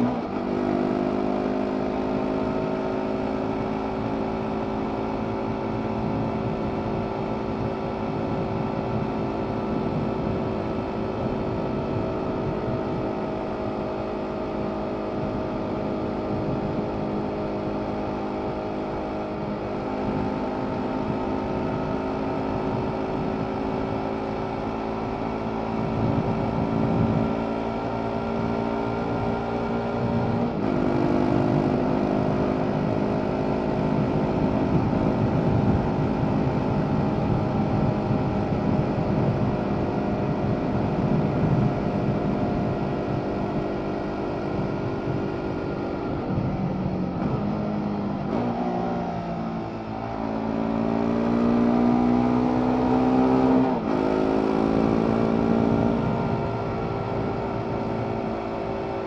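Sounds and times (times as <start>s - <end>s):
motorcycle engine: 0.0s - 59.0s
wind rush on microphone: 1.4s - 59.0s.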